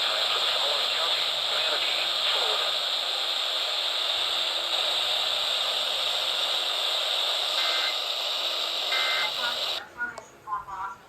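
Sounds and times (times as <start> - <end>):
radio static hiss: 0.0 - 10.2.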